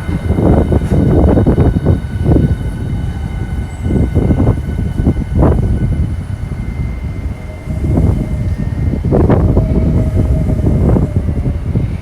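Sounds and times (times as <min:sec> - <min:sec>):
electric train rumbling: 0:00.0 - 0:12.0
high train whine: 0:00.0 - 0:12.0.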